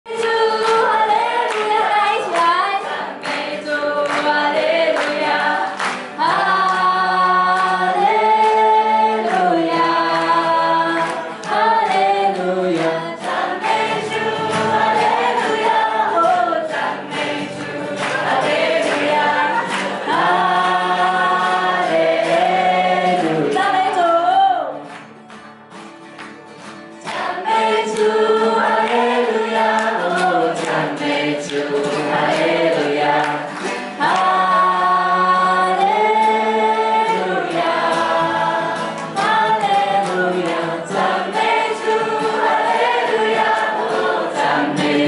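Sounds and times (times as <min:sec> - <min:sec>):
group singing a praise song: 0:00.1 - 0:24.9, 0:27.0 - 0:45.0
hands clapping along: 0:00.1 - 0:45.0.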